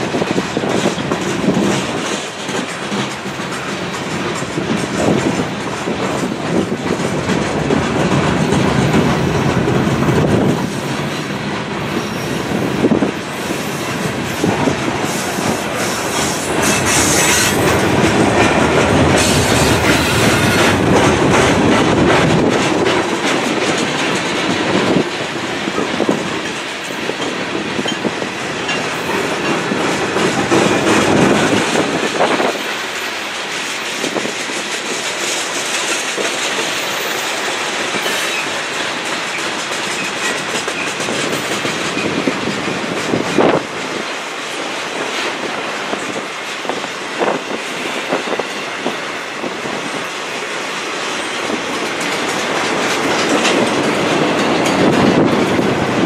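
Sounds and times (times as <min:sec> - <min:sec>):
steel wheels clacking over rail joints: 0:00.0 - 0:56.0
train rumble: 0:00.0 - 0:56.0.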